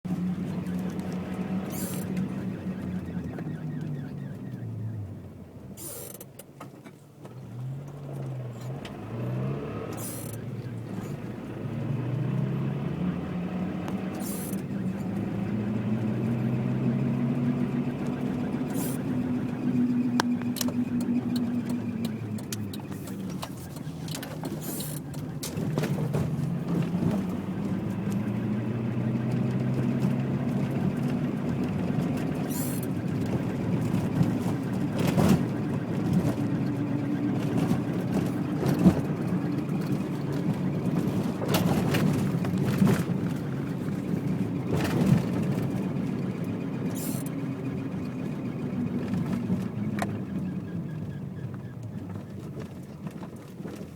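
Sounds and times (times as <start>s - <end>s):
car engine and road noise: 0.0s - 53.9s
constant noise from driver's side: 0.0s - 53.9s.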